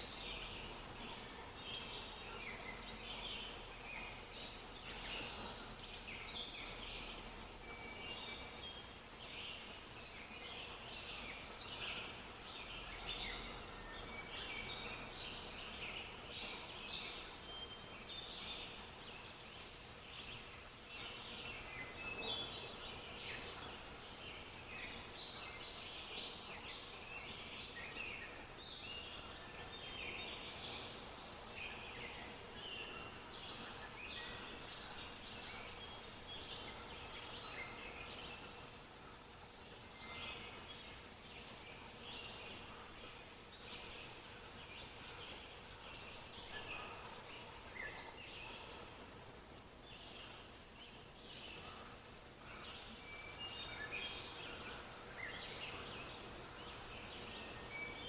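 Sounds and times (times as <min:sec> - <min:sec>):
faint steady tone: 0:00.0 - 0:58.0
small birds chirping: 0:00.0 - 0:58.0.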